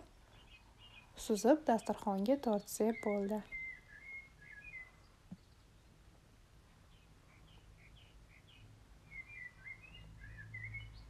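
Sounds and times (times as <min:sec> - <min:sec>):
faint bird chirps: 0:00.0 - 0:06.0, 0:06.7 - 0:11.0.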